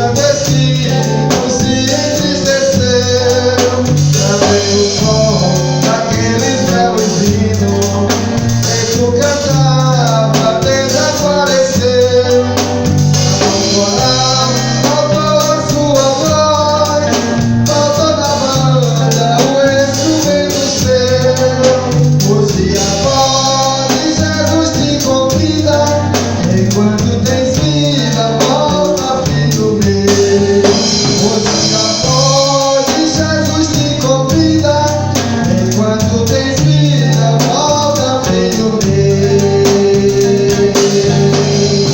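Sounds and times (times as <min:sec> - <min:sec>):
band accompaniment: 0:00.0 - 0:41.9
stepping bass line: 0:00.0 - 0:41.9
vocal group singing gospel: 0:00.0 - 0:41.9.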